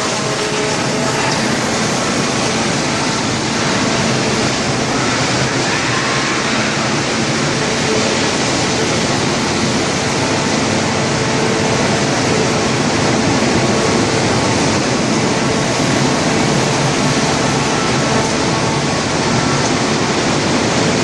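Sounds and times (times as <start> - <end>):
wood chipper running: 0.0 - 21.0.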